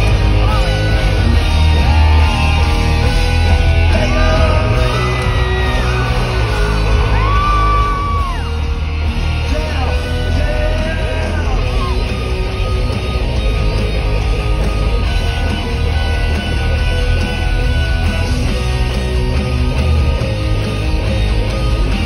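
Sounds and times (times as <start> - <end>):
distorted electric guitars: 0.0 - 22.0
live rock band: 0.0 - 22.0.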